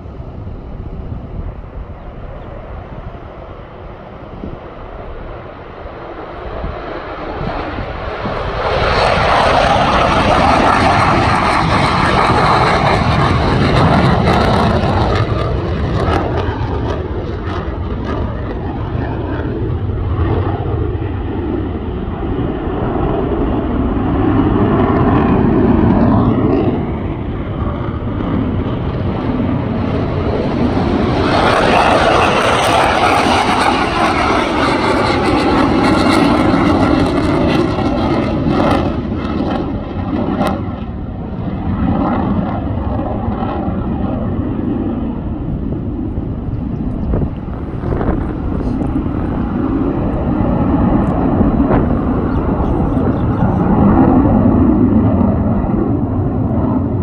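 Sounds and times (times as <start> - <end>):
jet fighter flying past: 0.0 - 57.0.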